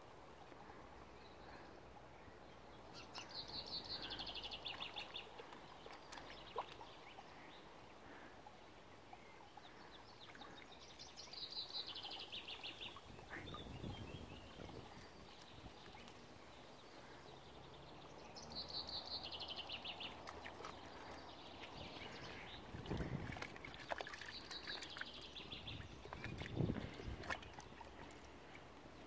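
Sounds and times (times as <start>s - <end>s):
faint outdoor background noise: 0.0s - 29.0s.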